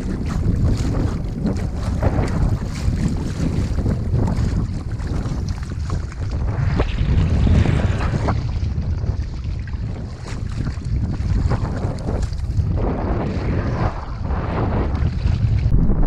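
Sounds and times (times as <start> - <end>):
water splashing and sloshing: 0.0 - 16.0
wind buffeting microphone: 0.0 - 16.0.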